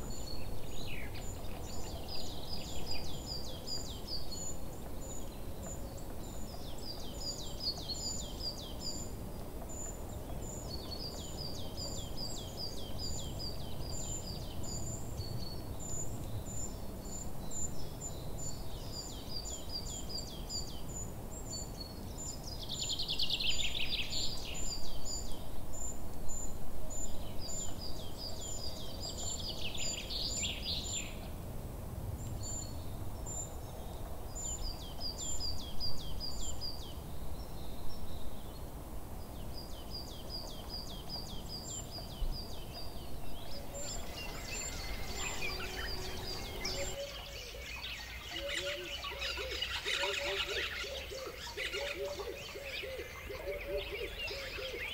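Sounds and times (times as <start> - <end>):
low background noise: 0.0 - 54.9
songbirds chirping: 0.0 - 54.9.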